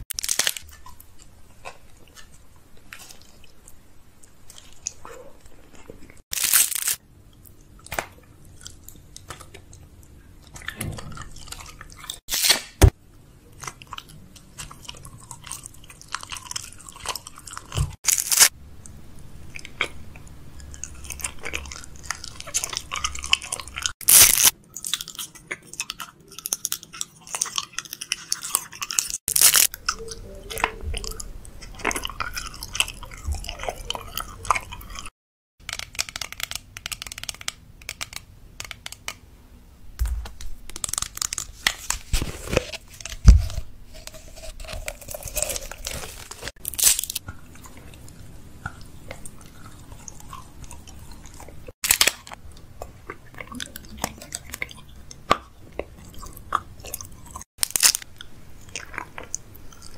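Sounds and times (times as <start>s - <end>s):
chewing and crunching food: 0.0s - 12.3s, 13.3s - 39.1s, 40.7s - 59.9s.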